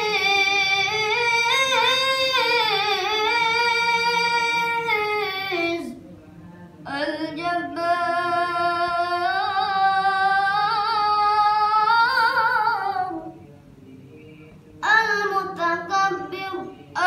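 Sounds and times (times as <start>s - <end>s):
child reciting melodically: 0.0s - 6.0s, 6.9s - 13.3s, 14.8s - 17.0s.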